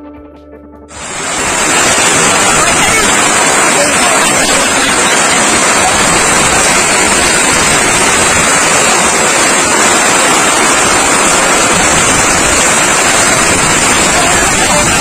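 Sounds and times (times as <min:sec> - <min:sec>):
heavy rain and hail on pavement: 0:00.9 - 0:15.0.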